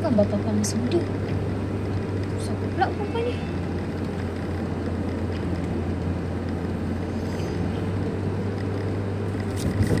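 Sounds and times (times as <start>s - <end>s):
car engine hum: 0.0s - 10.0s
road and tyre noise: 0.0s - 10.0s.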